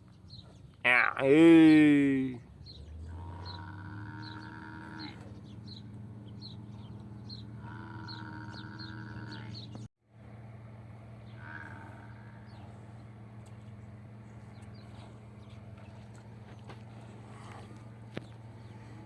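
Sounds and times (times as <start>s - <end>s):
farm animal calling: 0.4s - 9.8s, 11.2s - 19.0s.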